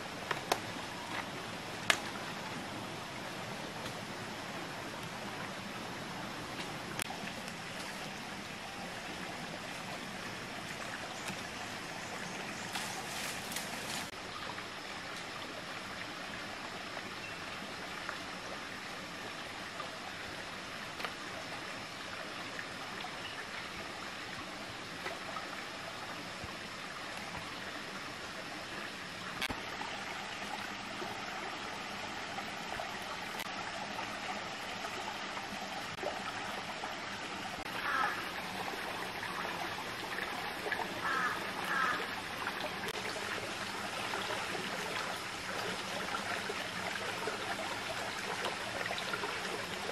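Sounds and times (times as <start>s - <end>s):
stream flowing and trickling: 0.0s - 49.9s.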